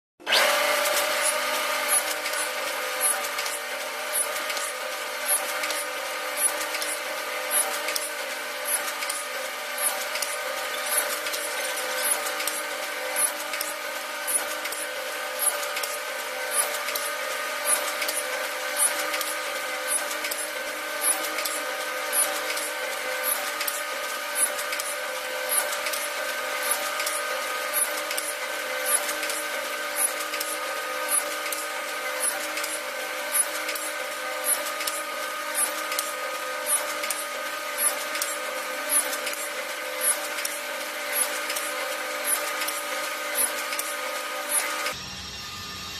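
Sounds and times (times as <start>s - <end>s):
machine whining: 0.2s - 45.9s
sharp machine clicks: 0.8s - 45.0s.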